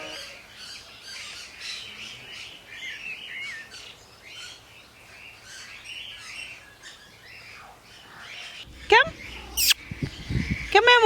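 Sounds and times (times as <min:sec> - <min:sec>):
birds chirping and singing: 0:00.1 - 0:11.0.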